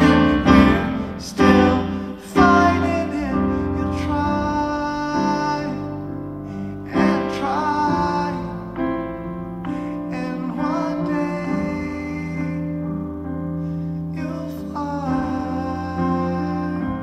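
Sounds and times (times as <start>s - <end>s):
grand piano chords: 0.0s - 17.0s
man singing slow ballad: 0.0s - 17.0s.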